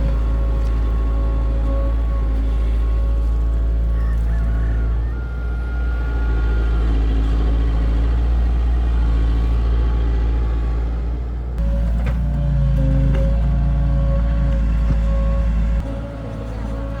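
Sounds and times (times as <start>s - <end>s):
heavy diesel engine drone: 0.0s - 17.0s.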